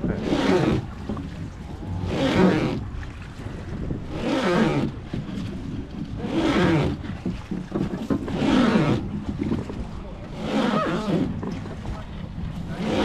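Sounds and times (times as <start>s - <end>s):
river water rushing and splashing: 0.0s - 13.0s
steady rumble: 0.0s - 13.0s
wind on microphone: 0.0s - 13.0s.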